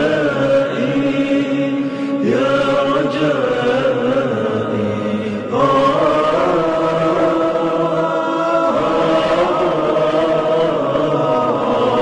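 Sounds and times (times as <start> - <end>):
voices chanting sustained notes: 0.0 - 12.0.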